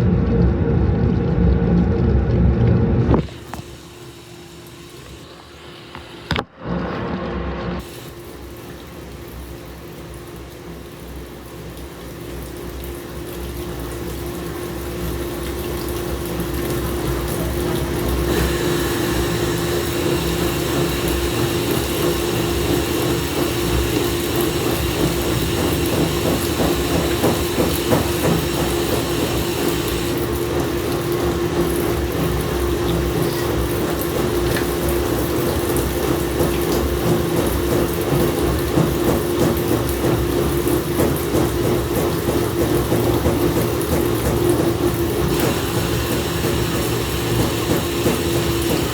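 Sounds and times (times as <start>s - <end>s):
washing machine motor hum: 0.0s - 48.9s
water sounds: 0.0s - 48.9s.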